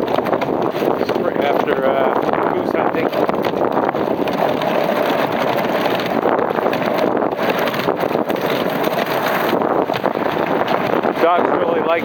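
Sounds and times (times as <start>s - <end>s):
sled runners scraping over ice: 0.0s - 12.0s
wind buffeting microphone: 0.0s - 12.0s.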